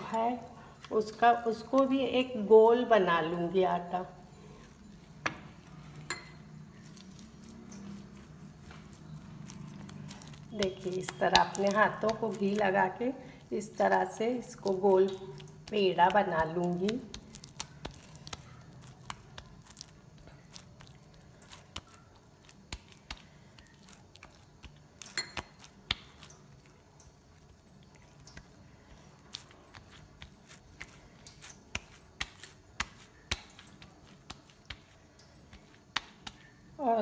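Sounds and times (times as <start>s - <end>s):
sticky dough squelching in hands: 0.0s - 37.0s.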